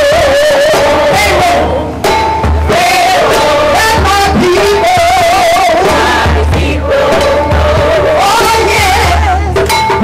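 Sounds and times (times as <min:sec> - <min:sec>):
woman singing through loudspeaker: 0:00.0 - 0:02.0, 0:02.7 - 0:09.7.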